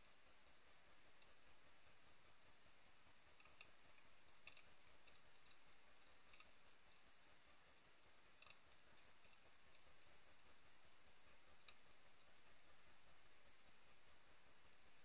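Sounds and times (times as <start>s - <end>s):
quiet hiss: 0.0s - 15.0s
hedgehogs chewing food: 0.1s - 14.9s.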